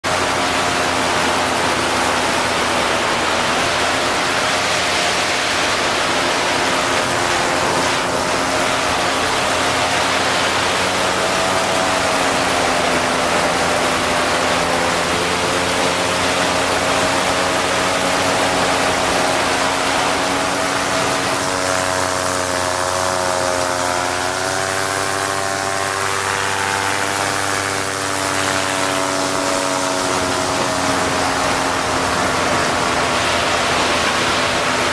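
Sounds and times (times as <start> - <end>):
paramotor engine and propeller: 0.0 - 34.9.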